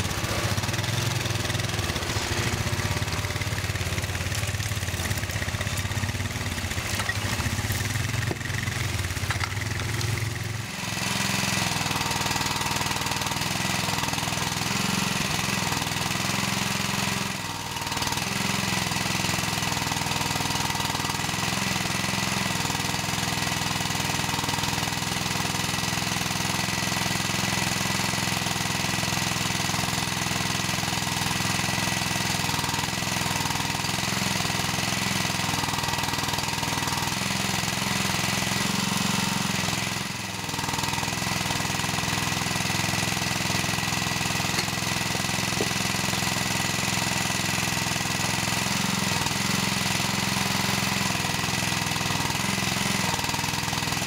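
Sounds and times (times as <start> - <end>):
engine running steadily: 0.0 - 54.0
small petrol engine rising and falling: 0.0 - 54.0.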